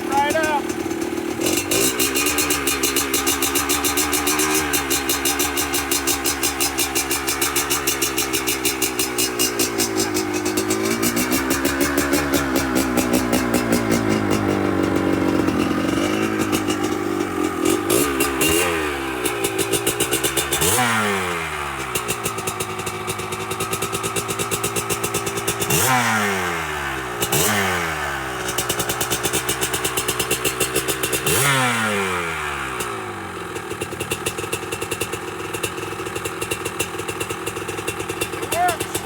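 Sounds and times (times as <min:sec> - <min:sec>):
two-stroke engine idling and revving: 0:00.0 - 0:39.0.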